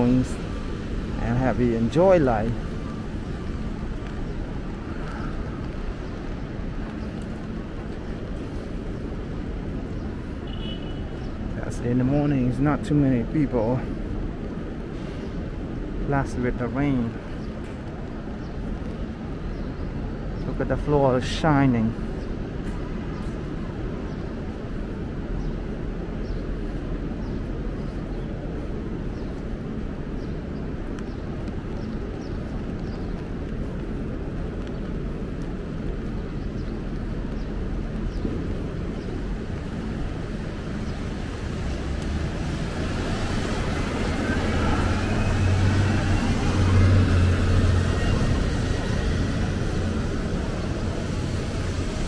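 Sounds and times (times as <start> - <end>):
traffic on wet streets: 0.0 - 52.0.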